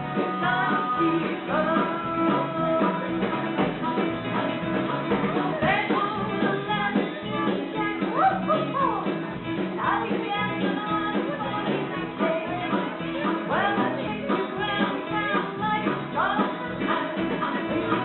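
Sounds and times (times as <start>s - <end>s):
people singing: 0.0s - 8.8s, 9.8s - 18.0s
acoustic guitar: 0.0s - 18.0s
keyboard: 0.0s - 18.0s.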